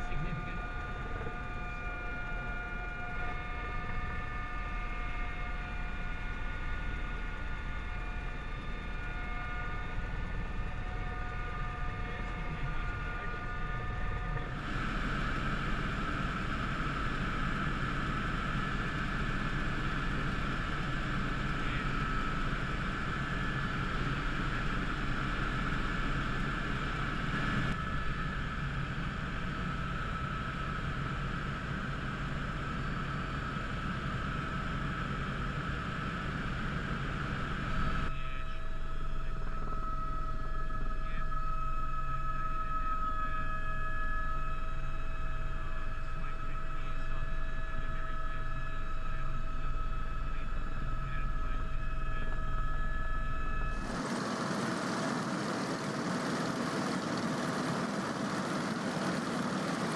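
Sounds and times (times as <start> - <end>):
aircraft engine drone: 0.0 - 59.9.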